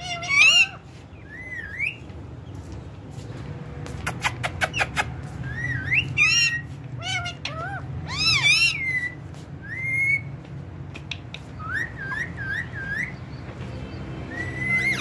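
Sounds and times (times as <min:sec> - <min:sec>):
parakeet whistling and calling: 0:00.0 - 0:02.0, 0:04.1 - 0:10.4, 0:11.0 - 0:15.0.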